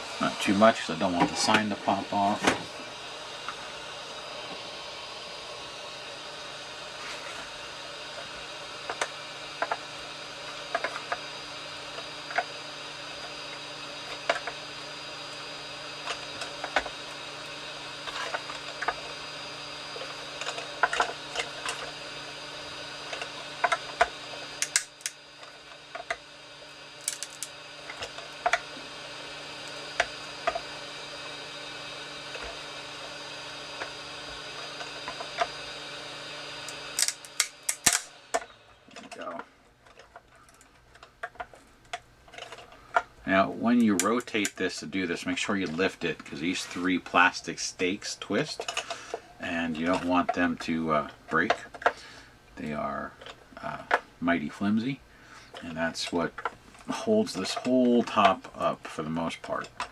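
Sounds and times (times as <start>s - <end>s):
heat pen fan whirring: 0.0s - 59.9s.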